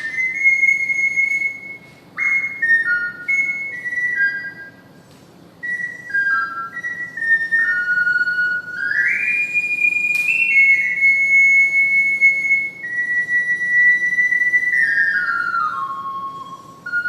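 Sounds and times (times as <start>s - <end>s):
ocarina melody: 0.0s - 17.0s.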